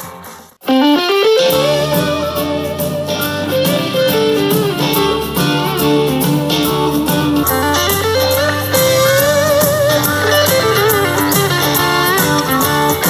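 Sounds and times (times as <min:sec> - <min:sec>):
blues-rock electric guitar music: 0:00.1 - 0:13.0.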